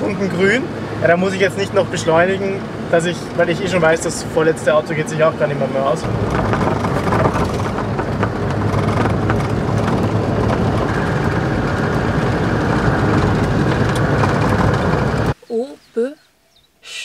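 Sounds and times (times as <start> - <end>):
diesel engine rumble: 0.0 - 16.2
road noise: 0.0 - 17.0.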